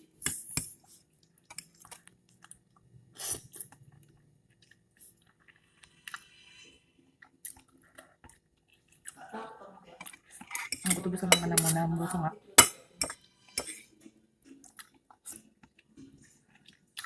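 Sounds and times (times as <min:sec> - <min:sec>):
person chewing and eating: 0:00.0 - 0:09.2, 0:10.0 - 0:17.0.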